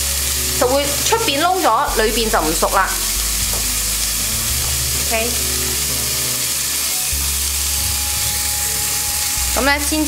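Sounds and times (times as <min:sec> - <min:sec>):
lobsters sizzling in a pan: 0:00.0 - 0:10.0.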